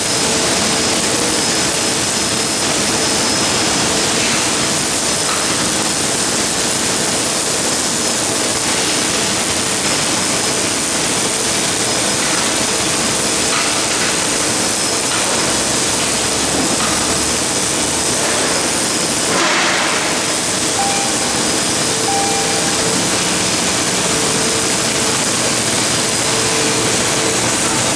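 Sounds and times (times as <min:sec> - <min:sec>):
welding arc hissing: 0:00.0 - 0:27.9.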